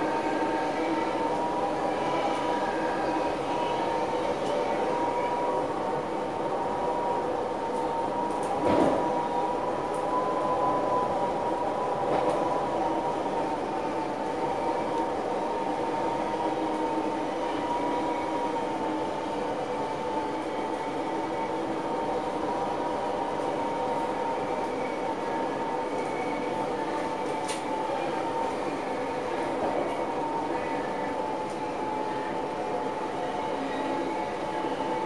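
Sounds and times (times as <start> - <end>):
train rumble on track: 0.0 - 35.0.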